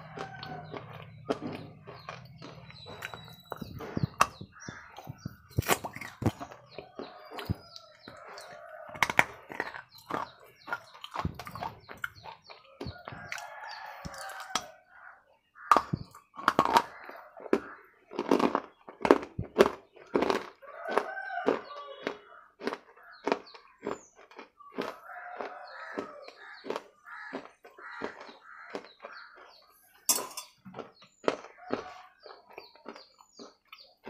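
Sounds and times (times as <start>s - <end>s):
crunching bites: 0.0s - 14.7s, 15.6s - 29.8s, 30.7s - 34.0s
wet chewing: 0.0s - 14.8s, 15.6s - 34.0s.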